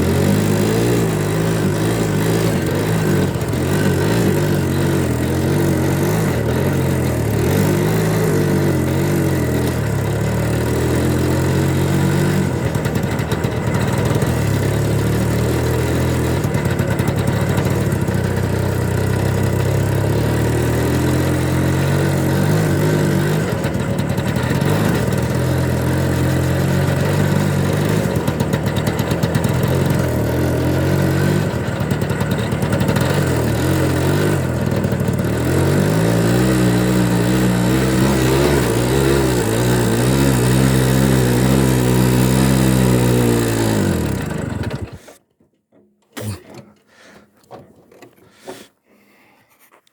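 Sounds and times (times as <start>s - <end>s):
trike engine revving: 0.0s - 45.2s, 46.1s - 46.8s.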